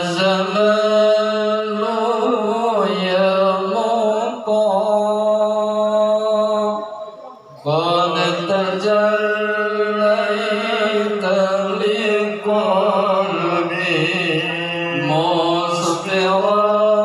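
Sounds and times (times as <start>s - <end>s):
person chanting slow melody: 0.0s - 17.0s.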